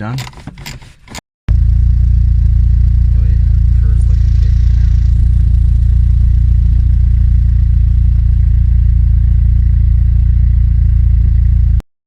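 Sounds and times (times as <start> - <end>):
car engine idling: 1.5 - 11.8.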